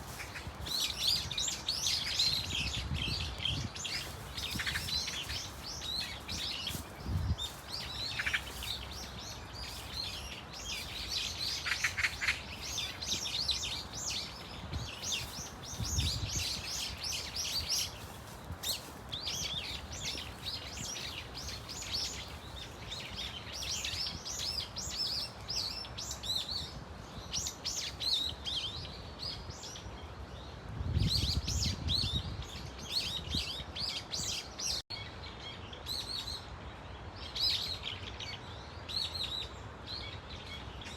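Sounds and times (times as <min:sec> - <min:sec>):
flock of birds chirping: 0:00.0 - 0:40.9.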